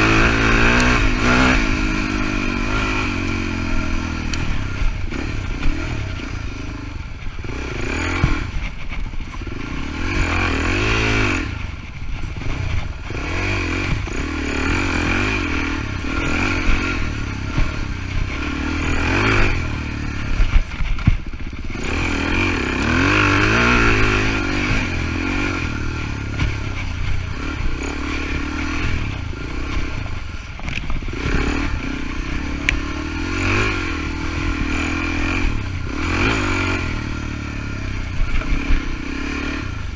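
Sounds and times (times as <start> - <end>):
bike rattles and knocks: 0.0 - 39.9
motorcycle engine revving: 0.0 - 39.9.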